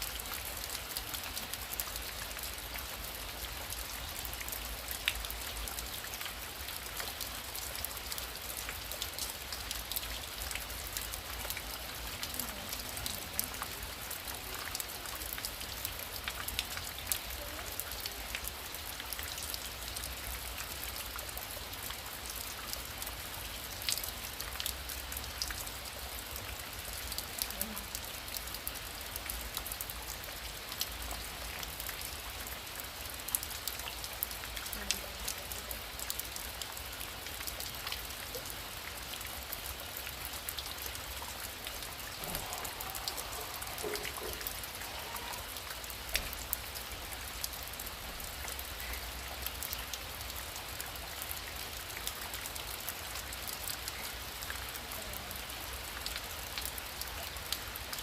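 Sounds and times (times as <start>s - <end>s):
heavy rain: 0.0s - 58.0s
raindrops ticking on a surface: 0.0s - 58.0s.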